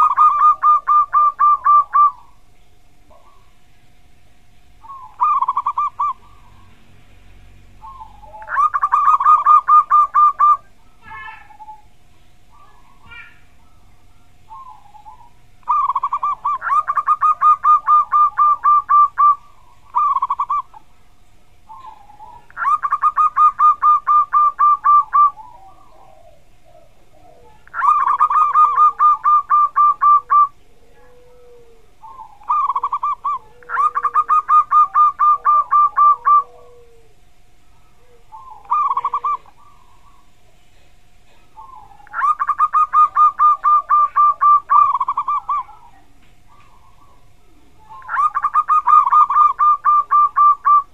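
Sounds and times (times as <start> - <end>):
dove cooing song: 0.0 - 50.9.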